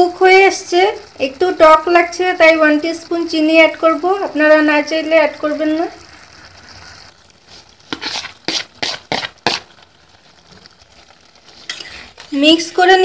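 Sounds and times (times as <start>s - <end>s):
simmering sauce hiss: 0.0s - 13.0s.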